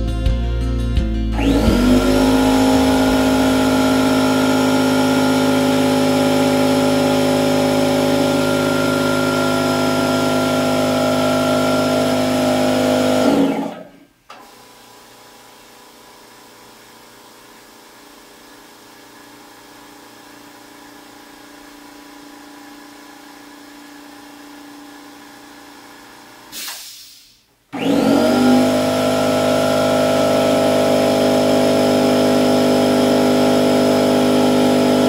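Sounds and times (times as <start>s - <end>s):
loud air compressor running: 1.3s - 35.0s.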